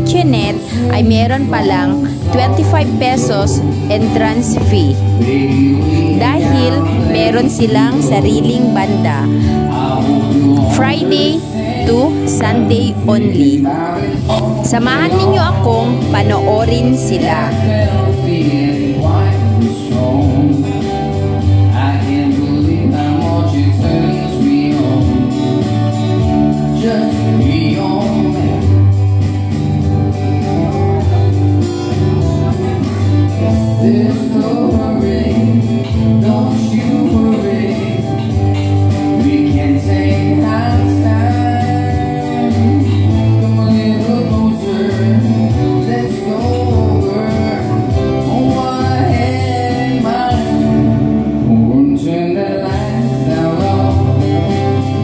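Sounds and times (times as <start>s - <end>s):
person singing: 0.0s - 28.9s, 29.9s - 55.0s
live band playing: 0.0s - 55.0s.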